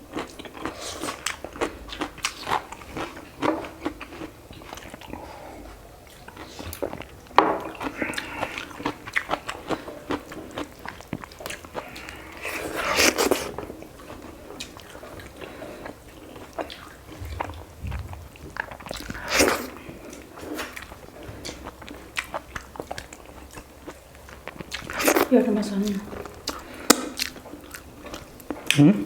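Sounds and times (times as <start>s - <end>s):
chewing and biting: 0.0s - 25.3s, 26.0s - 28.8s.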